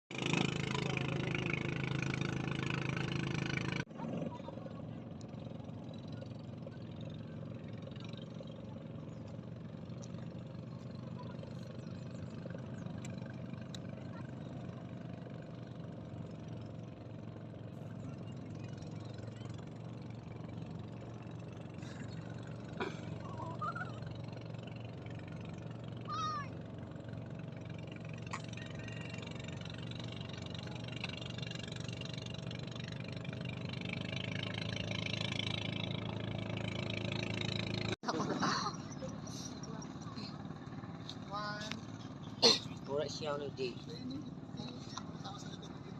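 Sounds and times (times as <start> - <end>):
boat engine running: 0.1 - 45.9.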